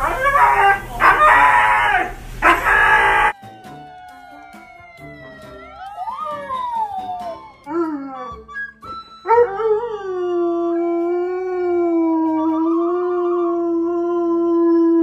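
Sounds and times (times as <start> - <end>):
dog howling: 0.0 - 15.0.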